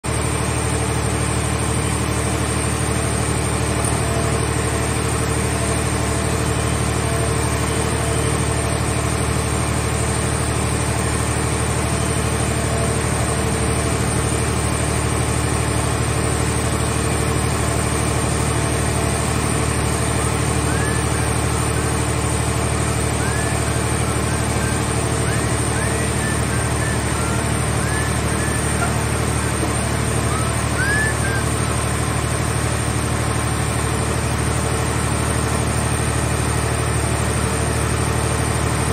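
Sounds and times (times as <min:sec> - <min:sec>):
hydraulic machine humming: 0:00.1 - 0:38.9.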